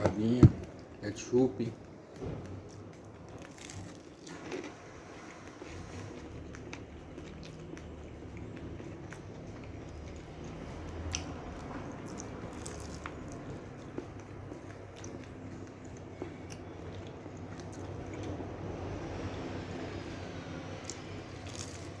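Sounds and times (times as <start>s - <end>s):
chewing crisp pastry: 0.0s - 22.0s
moist squishing mouth sounds: 1.7s - 19.4s, 20.8s - 22.0s.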